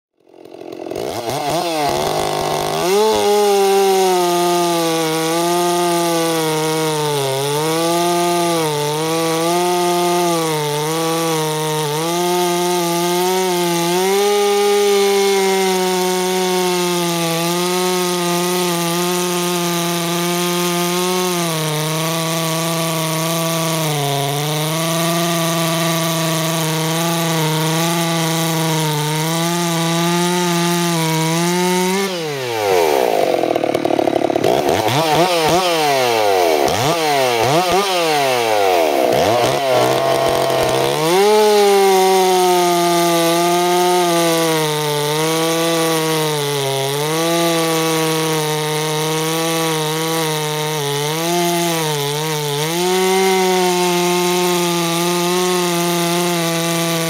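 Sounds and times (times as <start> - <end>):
chainsaw cutting logs: 0.0 - 57.0.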